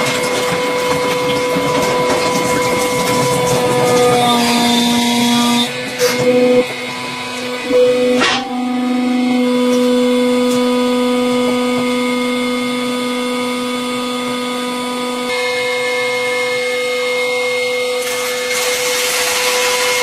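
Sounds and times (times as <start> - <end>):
hydraulic press motor hum: 0.0 - 20.0.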